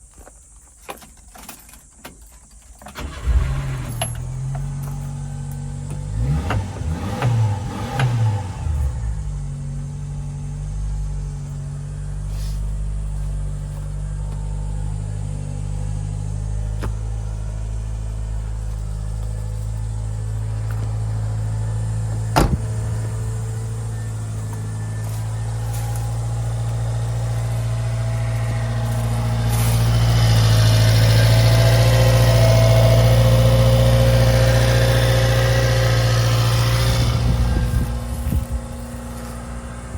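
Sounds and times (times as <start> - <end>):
truck engine starting and revving: 3.0 - 39.9.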